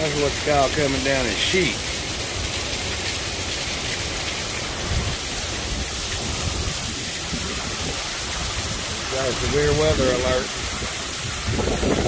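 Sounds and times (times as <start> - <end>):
torrential rain hiss: 0.0 - 12.0.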